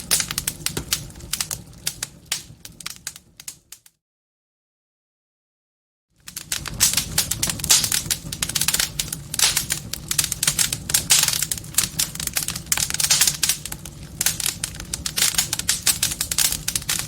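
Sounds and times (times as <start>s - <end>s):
wood fire crackling and popping: 0.0s - 3.9s, 6.2s - 17.0s.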